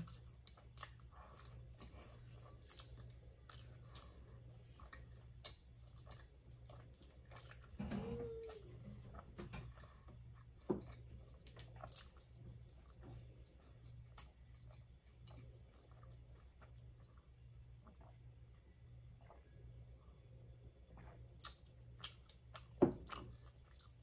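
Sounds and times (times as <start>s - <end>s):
close-up chewing: 0.0s - 18.6s, 20.9s - 24.0s.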